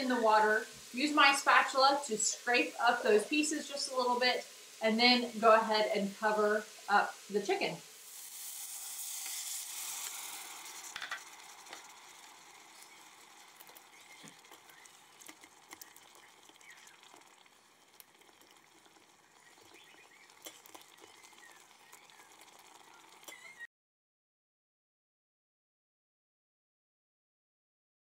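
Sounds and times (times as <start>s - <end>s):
crackling sizzle: 0.0s - 23.7s
water hissing in a hot pot: 0.0s - 23.7s.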